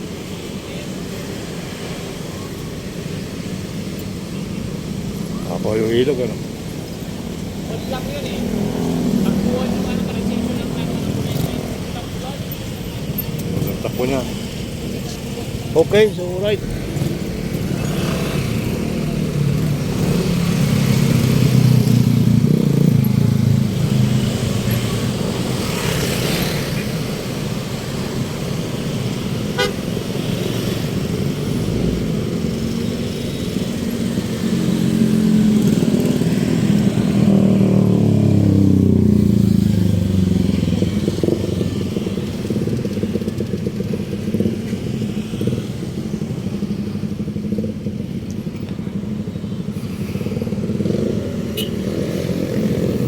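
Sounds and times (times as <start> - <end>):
vehicle engines passing by: 0.0 - 53.0.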